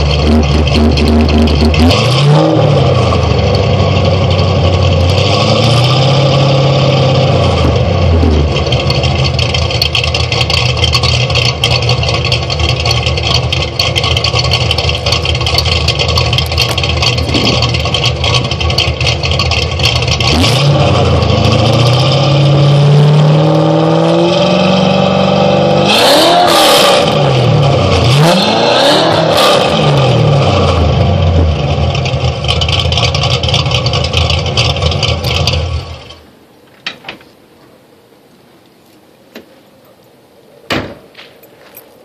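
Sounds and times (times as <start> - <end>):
car engine revving: 0.0 - 36.2.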